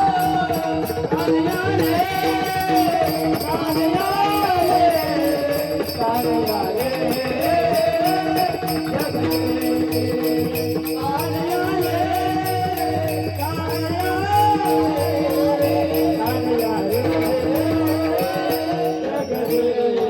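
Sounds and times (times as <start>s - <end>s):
hand cymbals: 0.0s - 20.0s
person singing: 0.0s - 20.0s.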